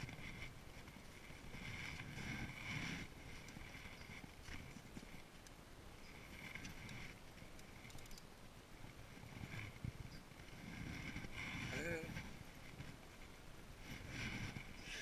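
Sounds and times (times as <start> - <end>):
faint wind rumble on microphone: 0.0 - 15.0.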